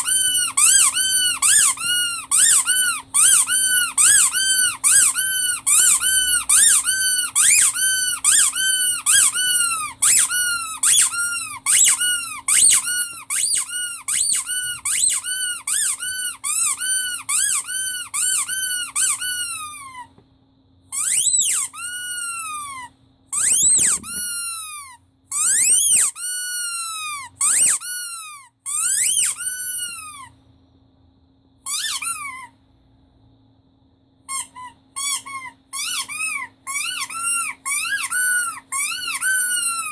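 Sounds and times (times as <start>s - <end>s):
rubber squeak toy squeaking: 0.0s - 20.1s, 20.9s - 30.4s, 31.6s - 32.6s, 34.3s - 39.9s.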